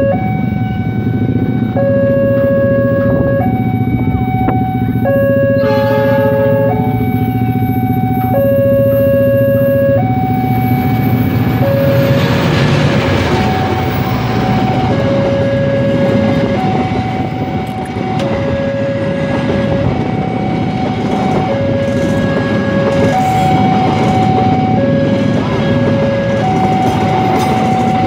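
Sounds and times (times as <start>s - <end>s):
crossing alarm two-tone: 0.0s - 28.0s
train wheels and engine rumble: 0.0s - 28.0s.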